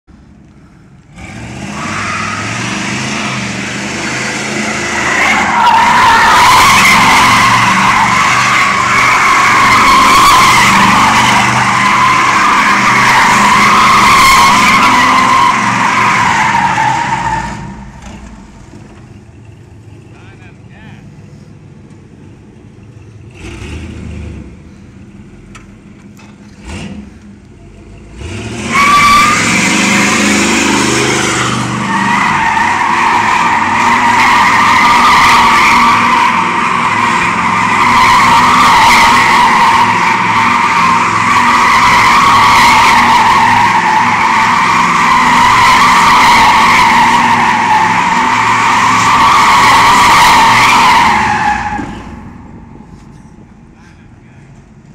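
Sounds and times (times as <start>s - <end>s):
tires screeching: 0.1s - 54.9s
car engine revving: 1.0s - 19.1s, 26.4s - 54.4s.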